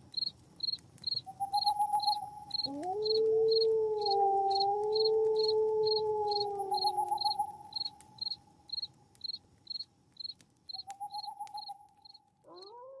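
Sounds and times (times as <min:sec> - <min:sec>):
cricket chirping: 0:00.1 - 0:12.7.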